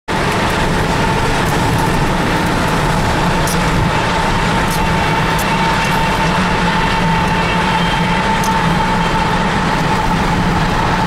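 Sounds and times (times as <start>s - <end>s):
freight train rumbling past: 0.1s - 11.0s.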